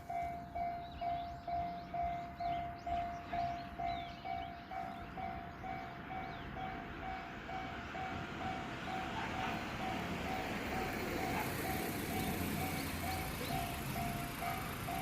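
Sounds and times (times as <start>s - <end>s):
level-crossing warning bell: 0.0s - 15.0s
passing vehicle rumble: 0.1s - 15.0s.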